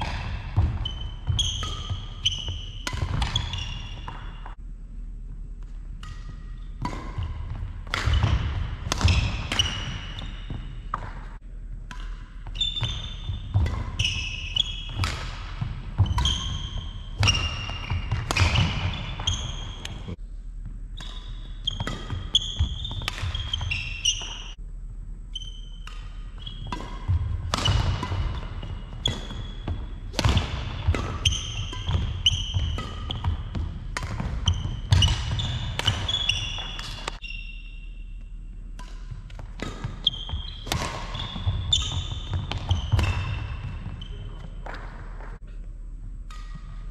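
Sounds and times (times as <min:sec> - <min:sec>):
rackets striking shuttlecock: 0:00.0 - 0:04.6, 0:05.9 - 0:20.2, 0:21.0 - 0:24.6, 0:25.7 - 0:37.3, 0:38.2 - 0:45.4, 0:46.2 - 0:46.9
shoes squeaking: 0:00.0 - 0:04.6, 0:05.6 - 0:11.4, 0:12.0 - 0:20.2, 0:20.9 - 0:24.6, 0:25.3 - 0:45.4.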